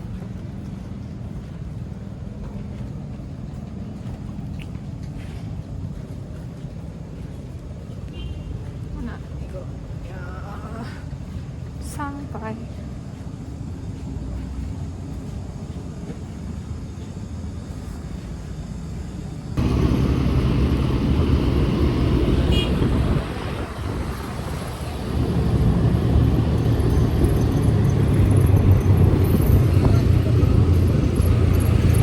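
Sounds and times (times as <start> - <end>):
passenger train rumbling: 0.0 - 32.0.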